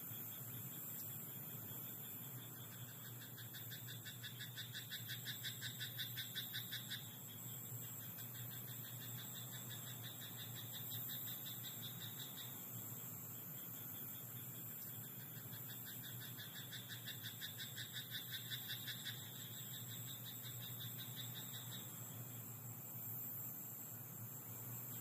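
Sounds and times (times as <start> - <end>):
high-pitched background hiss: 0.0 - 25.0.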